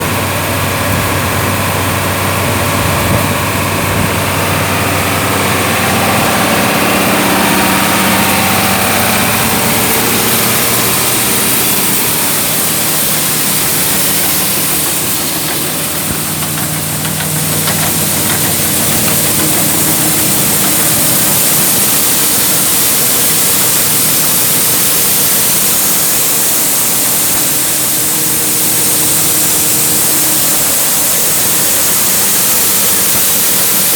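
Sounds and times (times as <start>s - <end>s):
tractor engine drone: 0.0s - 33.9s
grinder mixer mechanical noise: 2.4s - 33.9s.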